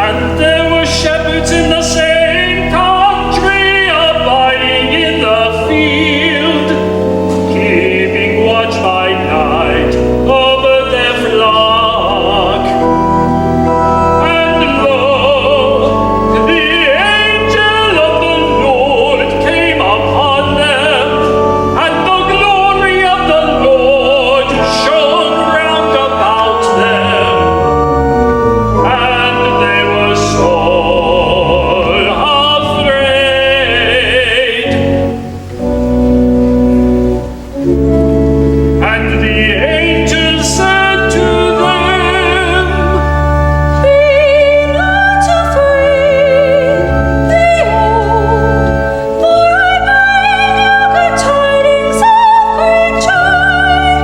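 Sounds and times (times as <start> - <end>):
church choir singing: 0.0 - 54.0
instrumental accompaniment: 0.0 - 54.0.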